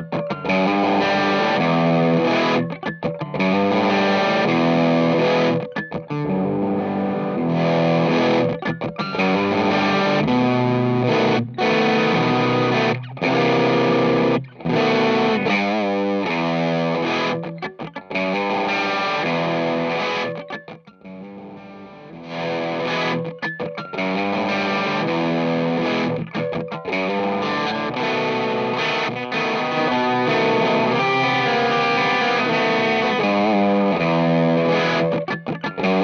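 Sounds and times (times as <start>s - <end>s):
overdriven electric guitar chords: 0.0s - 36.0s.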